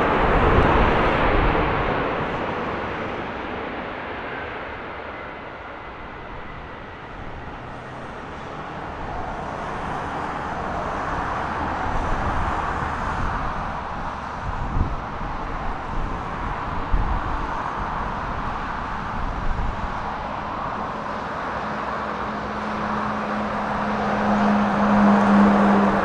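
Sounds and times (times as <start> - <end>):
jet engines whining and rushing: 0.0 - 26.0.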